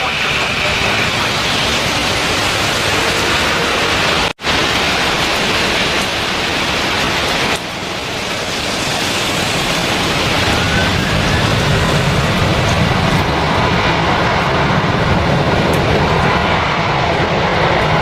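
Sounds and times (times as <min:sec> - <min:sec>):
heavy rain hissing: 0:00.0 - 0:18.0
low rumble: 0:00.0 - 0:18.0.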